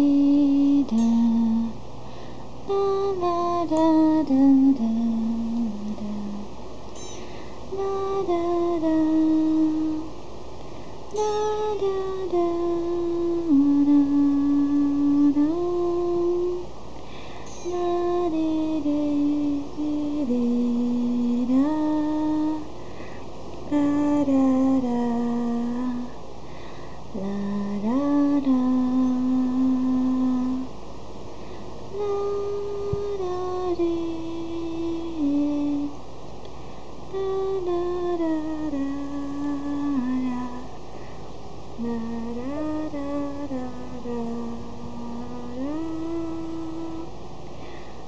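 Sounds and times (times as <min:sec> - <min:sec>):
person humming a slow melody: 0:00.0 - 0:30.8, 0:31.4 - 0:36.1, 0:36.9 - 0:48.0
person singing slow tune: 0:00.0 - 0:48.0.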